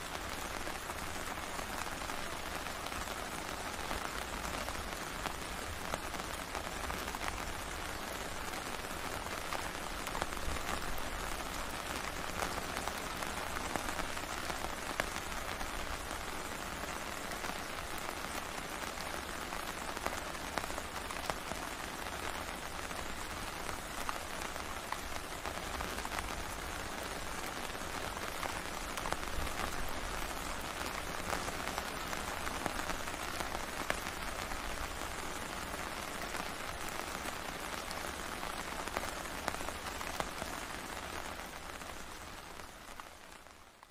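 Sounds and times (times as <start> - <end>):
rain on a tent: 0.0 - 43.9.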